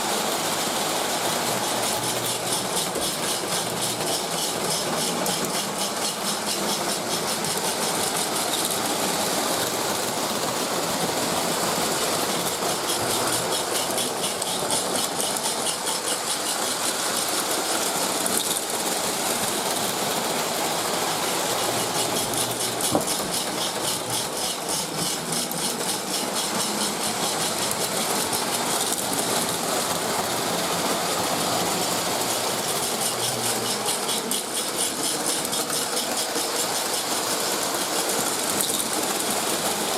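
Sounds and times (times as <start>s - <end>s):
motor and wheels rattling: 0.0s - 39.9s
toy steam train chuffing: 0.0s - 39.9s.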